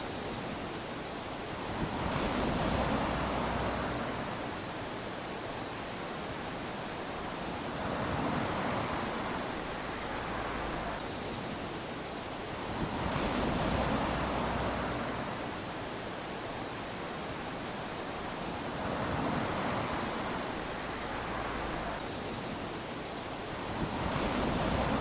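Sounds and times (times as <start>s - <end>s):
small waves lapping on sand: 0.0s - 25.0s.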